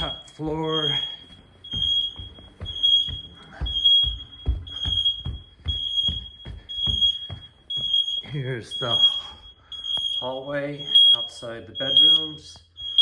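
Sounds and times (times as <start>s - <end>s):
footsteps on stairs: 0.0s - 12.0s
smoke alarm beeping: 0.0s - 13.0s.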